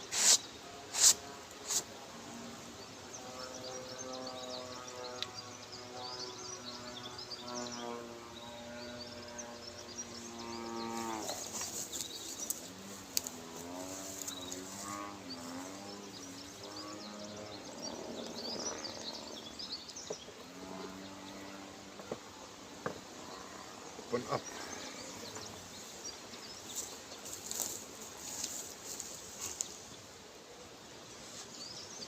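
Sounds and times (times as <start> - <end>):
small birds chirping: 2.7 - 32.0.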